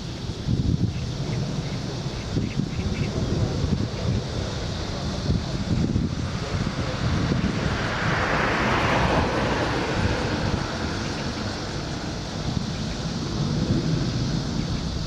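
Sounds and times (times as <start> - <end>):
jet engine noise: 0.0 - 15.0
wind buffeting microphone: 0.0 - 15.0.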